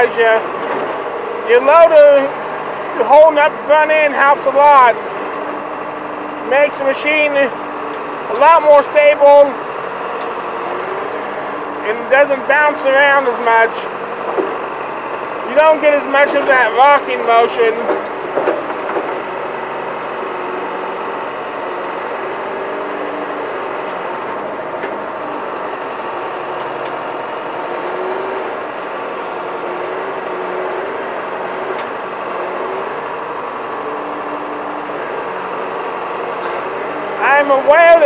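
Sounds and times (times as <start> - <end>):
backhoe engine running: 0.0 - 38.0.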